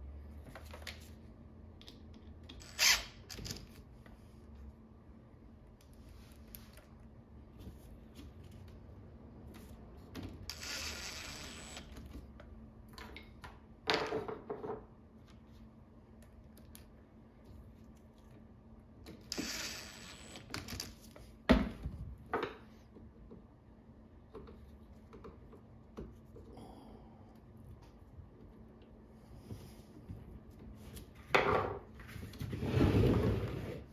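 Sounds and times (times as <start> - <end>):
faint steady hum: 0.0 - 32.5.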